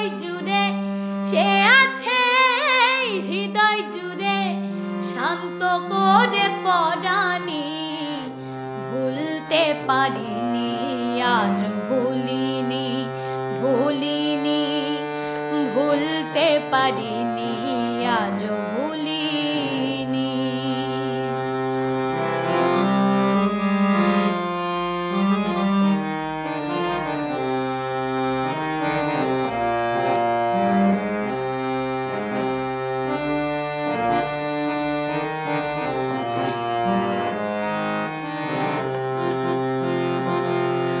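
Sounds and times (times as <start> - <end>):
instrumental music: 0.0 - 41.0.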